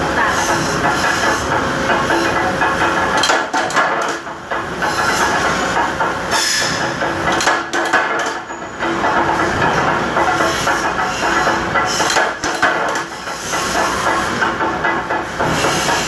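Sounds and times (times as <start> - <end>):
loud machine noise: 0.0 - 16.0.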